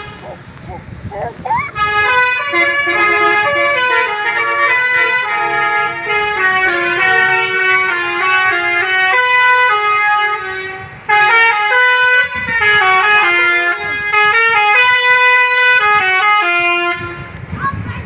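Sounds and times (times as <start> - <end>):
musical air horn melody: 1.8 - 17.2.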